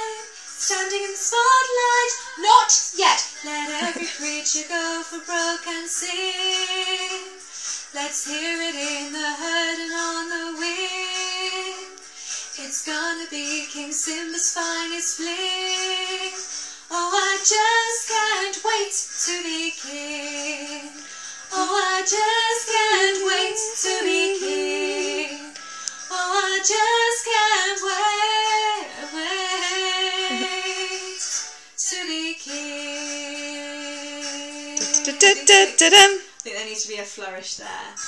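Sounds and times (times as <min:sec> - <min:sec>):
woman singing: 0:00.0 - 0:07.4, 0:08.0 - 0:12.0, 0:17.0 - 0:31.2, 0:31.8 - 0:36.9.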